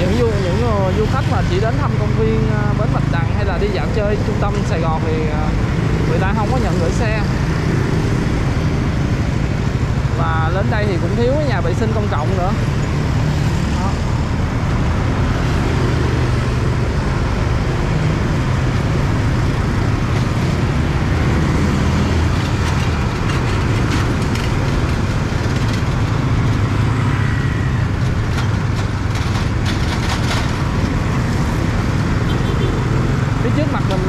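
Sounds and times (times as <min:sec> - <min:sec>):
city road traffic: 0:00.0 - 0:34.0.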